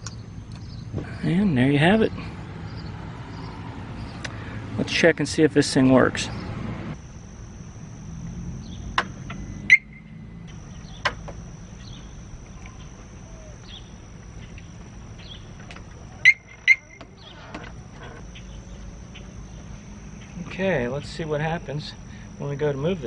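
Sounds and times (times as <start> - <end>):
security siren chirping: 0.2 - 23.0.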